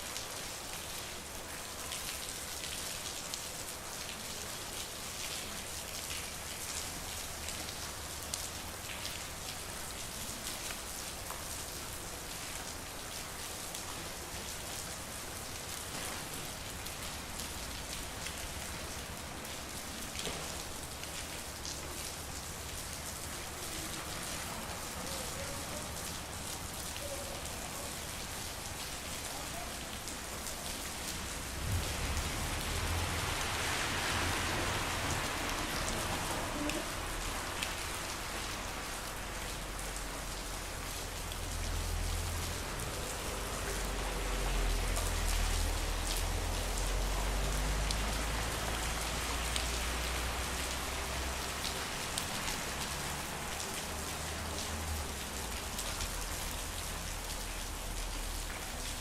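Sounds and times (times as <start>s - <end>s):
rain falling on a street: 0.0s - 59.0s.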